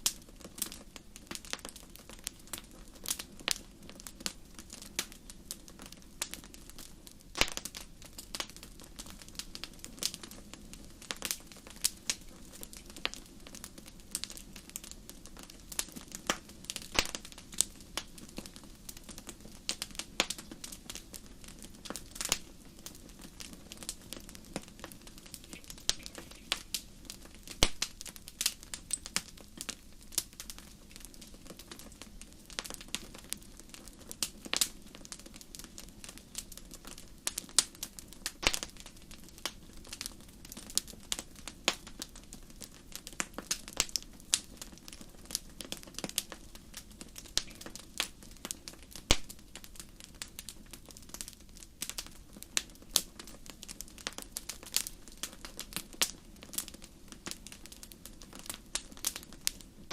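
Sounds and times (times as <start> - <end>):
fire crackling and popping: 0.0 - 59.9
low fire rumble: 0.0 - 59.9.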